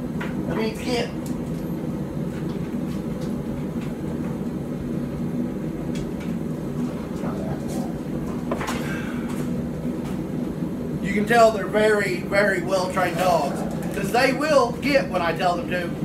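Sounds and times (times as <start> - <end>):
forge hum and rumble: 0.0 - 16.0.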